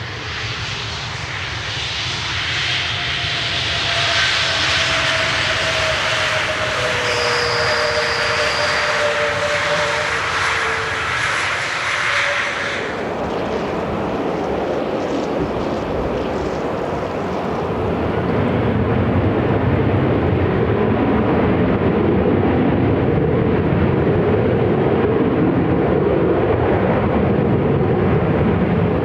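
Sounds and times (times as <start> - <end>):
jet airliner engines roaring past: 0.0 - 29.0.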